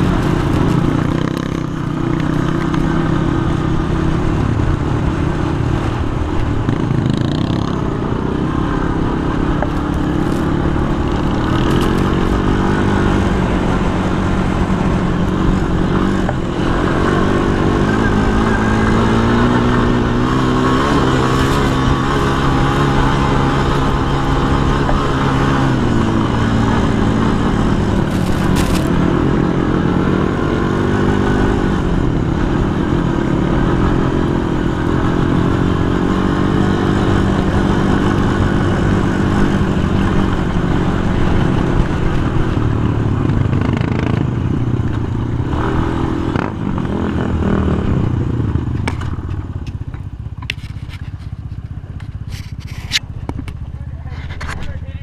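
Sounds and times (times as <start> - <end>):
quad engine revving: 0.0 - 5.6, 6.5 - 49.2.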